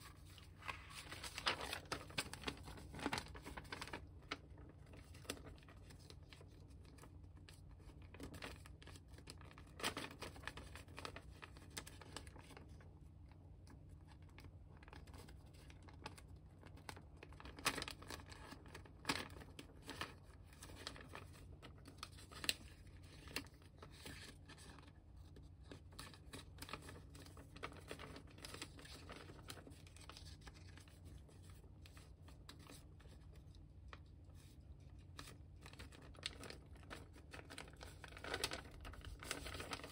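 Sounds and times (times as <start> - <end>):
paper rustling and crackling: 0.0 - 13.1, 13.7 - 39.9
low steady hum: 0.0 - 39.9.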